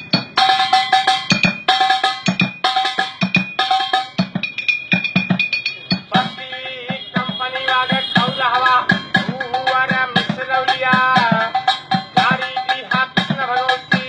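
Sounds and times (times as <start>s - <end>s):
percussion beat: 0.0s - 14.0s.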